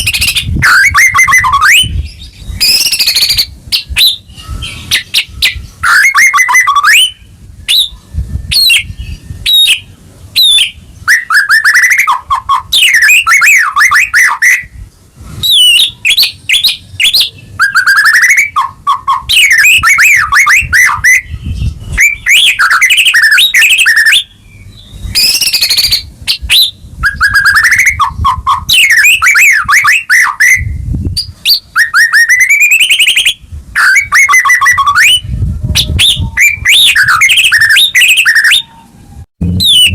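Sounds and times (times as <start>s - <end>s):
bird singing whistled trills: 0.0s - 14.8s, 15.4s - 39.9s.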